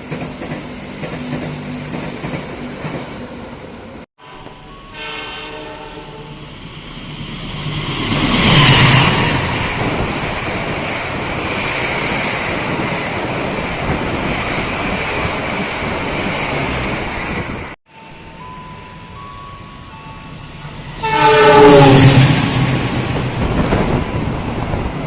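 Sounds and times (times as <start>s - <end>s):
train passing at speed: 0.0s - 17.8s, 18.4s - 25.0s.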